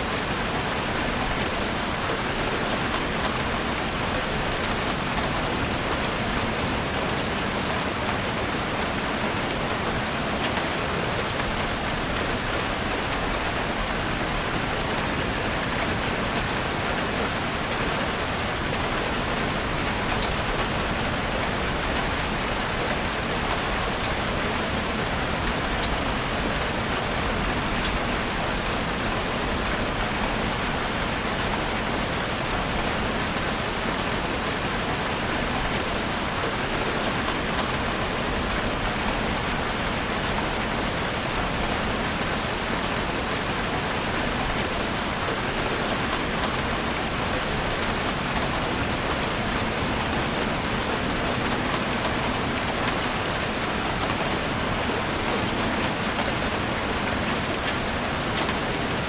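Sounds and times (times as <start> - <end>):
heavy rain on a roof: 0.0 - 59.0.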